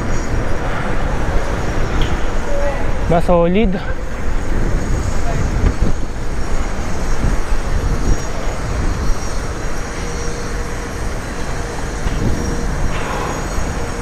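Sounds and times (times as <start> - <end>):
bicycle road rumble: 0.0 - 14.0
wind rushing over microphone: 0.0 - 14.0.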